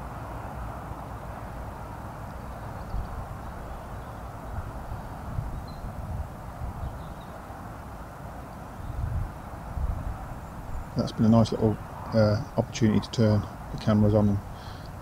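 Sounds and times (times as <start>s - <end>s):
wind buffeting microphone: 0.0s - 8.0s, 8.7s - 15.0s.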